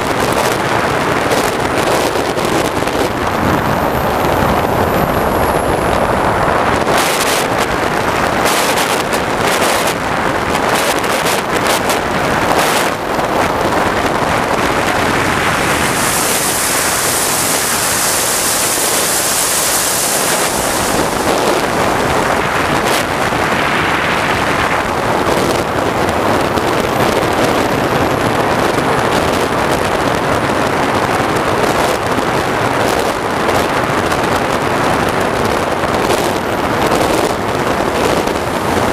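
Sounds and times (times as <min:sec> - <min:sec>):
model jet turbine roaring: 0:00.0 - 0:38.9
wind buffeting microphone: 0:00.0 - 0:38.9.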